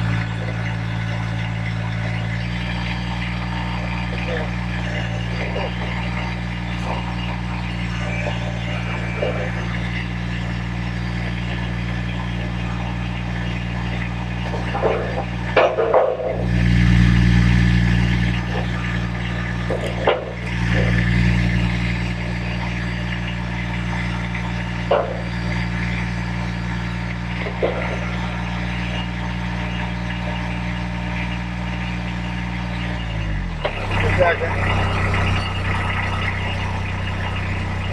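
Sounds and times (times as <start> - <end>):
low machine hum: 0.0 - 37.9.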